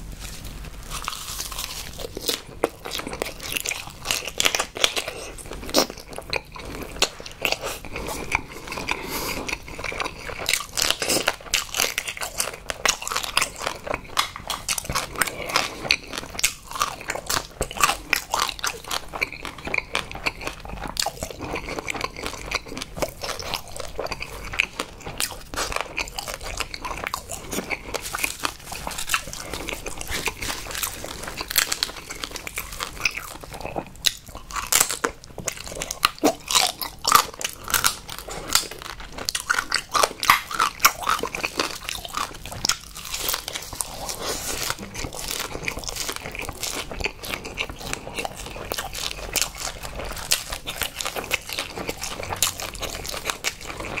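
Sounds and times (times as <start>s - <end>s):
close-miked crunching and chewing: 0.0s - 54.0s.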